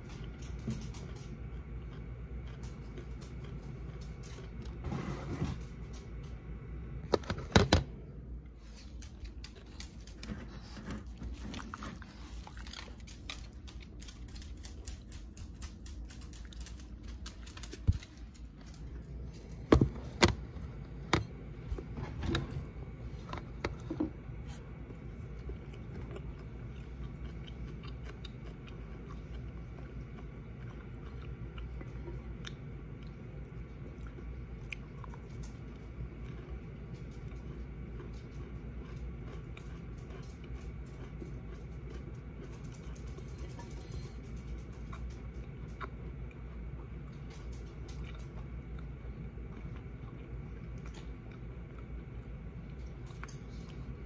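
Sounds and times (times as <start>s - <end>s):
person chewing and crunching snacks: 0.0s - 4.8s, 8.7s - 20.3s, 23.1s - 54.0s.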